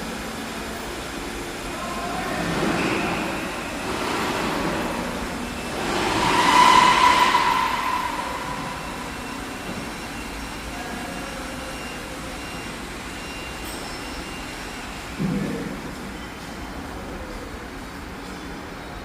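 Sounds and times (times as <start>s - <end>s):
machinery whine: 0.0s - 15.3s
factory machinery running: 0.0s - 18.1s.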